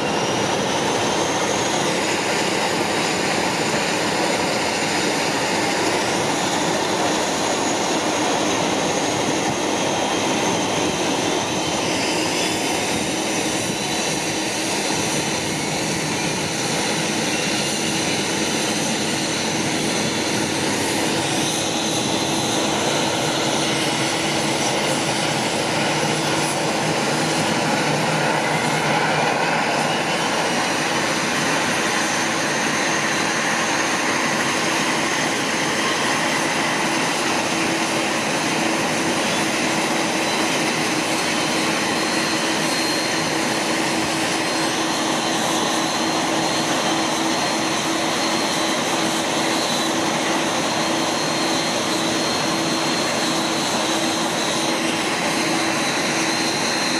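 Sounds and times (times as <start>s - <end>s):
turboprop engines idling: 0.0s - 56.9s.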